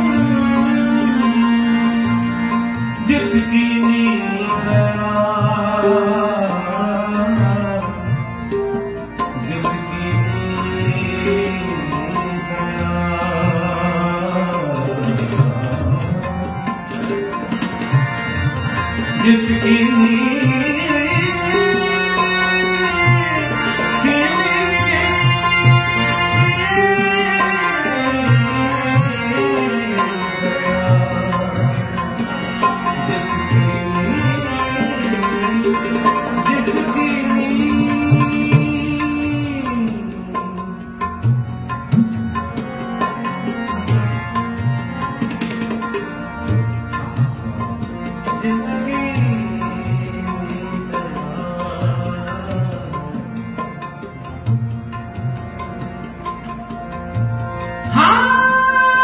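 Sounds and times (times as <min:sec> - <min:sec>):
harmonium drone: 0:00.0 - 0:59.0
tabla playing: 0:00.0 - 0:59.0.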